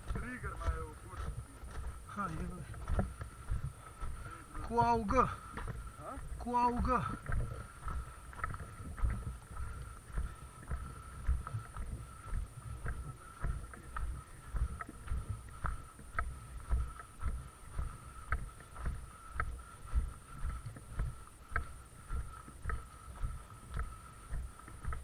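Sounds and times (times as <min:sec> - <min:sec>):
footsteps walking: 0:00.0 - 0:25.0
gear clicking and rustling: 0:00.0 - 0:25.0.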